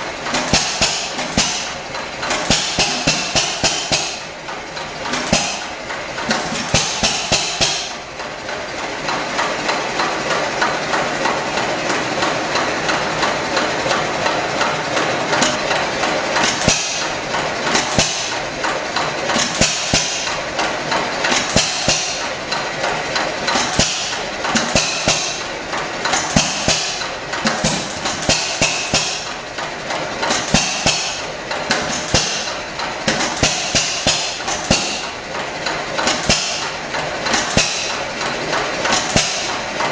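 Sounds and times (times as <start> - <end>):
engine hiss: 0.0 - 39.9
engine knocks and pops: 0.0 - 39.9
mechanical clatter: 0.0 - 39.9.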